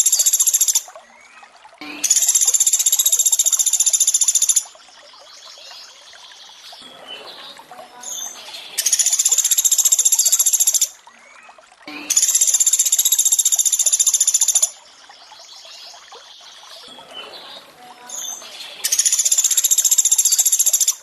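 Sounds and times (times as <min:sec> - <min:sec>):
trickling water: 0:00.0 - 0:21.0.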